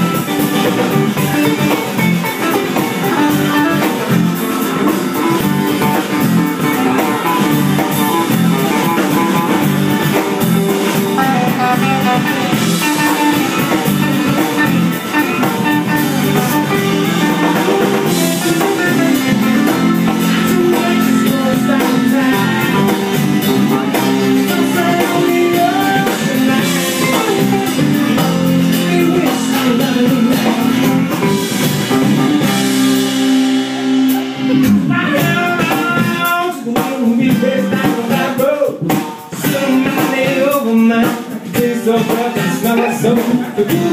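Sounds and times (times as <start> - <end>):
loud pop-rock song: 0.0 - 43.9.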